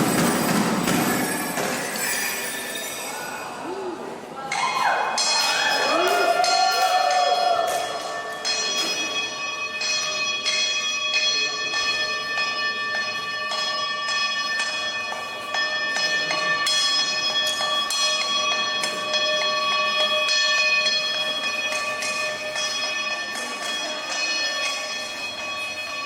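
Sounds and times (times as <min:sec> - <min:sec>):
cowbells struck: 0:00.0 - 0:03.3, 0:04.6 - 0:26.0.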